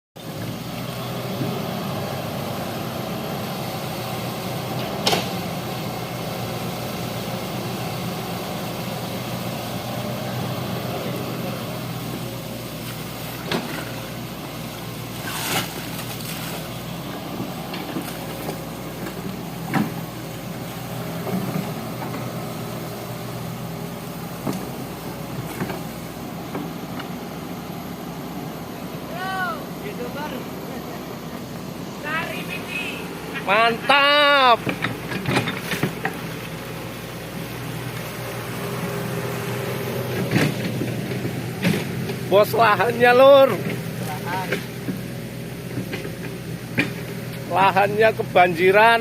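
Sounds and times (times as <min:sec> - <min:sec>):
excavator diesel engine running: 0:00.2 - 0:49.0.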